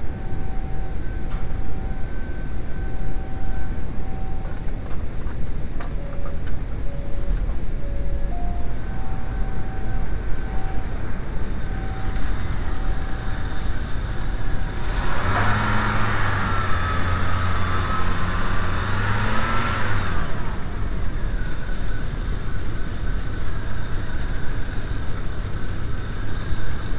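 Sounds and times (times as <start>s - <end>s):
car engine idling: 0.0s - 19.2s, 20.2s - 26.9s
high wavering whine: 0.0s - 26.9s.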